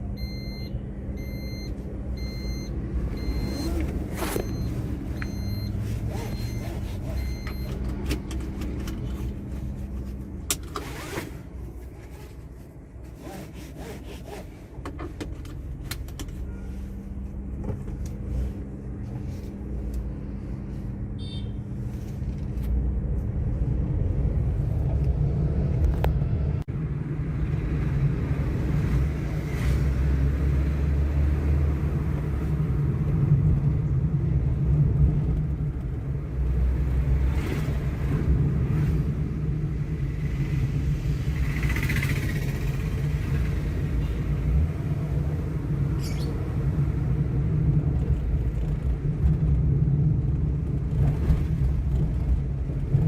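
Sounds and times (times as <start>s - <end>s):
car driving rumble inside cabin: 0.0s - 53.0s.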